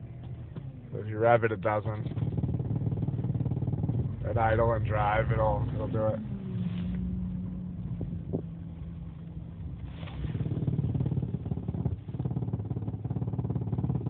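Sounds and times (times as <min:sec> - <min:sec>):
car engine idling: 0:00.0 - 0:14.0
rapidly pulsing drone: 0:01.3 - 0:14.0.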